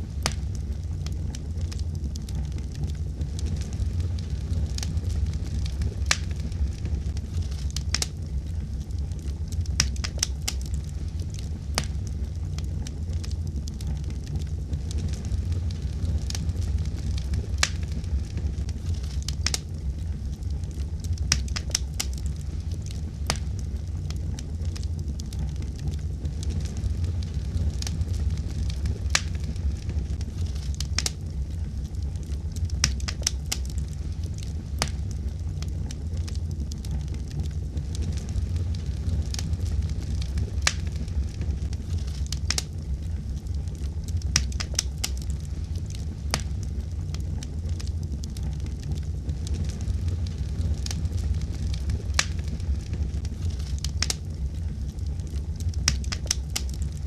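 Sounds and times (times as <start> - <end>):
wood fire crackling in fireplace: 0.0 - 57.0.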